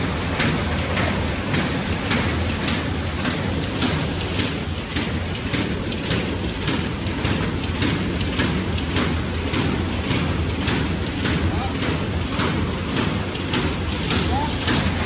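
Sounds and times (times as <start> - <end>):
machine mechanical drone: 0.0 - 15.0
regular machine clicking: 0.0 - 15.0.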